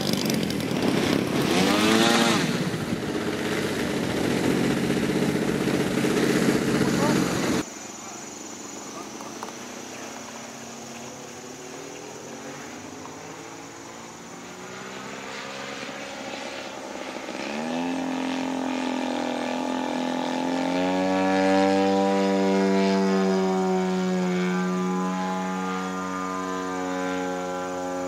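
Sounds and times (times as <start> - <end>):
model airplane propeller droning: 0.0 - 28.0.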